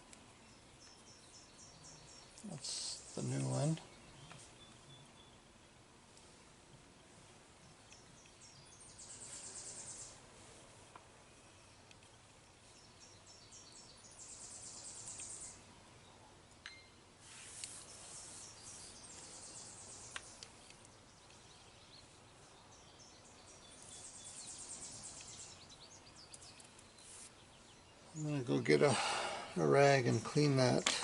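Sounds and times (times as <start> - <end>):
faint outdoor ambience: 0.0 - 31.0.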